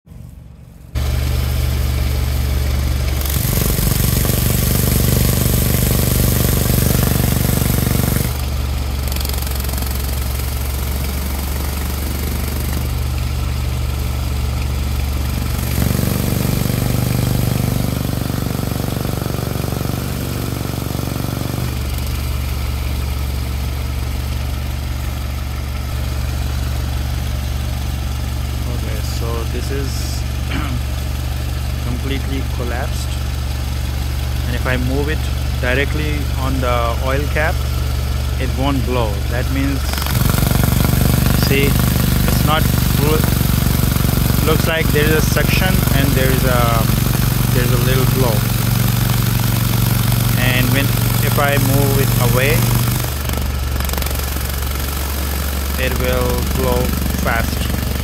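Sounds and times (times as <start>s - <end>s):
car engine idling: 0.1s - 58.0s.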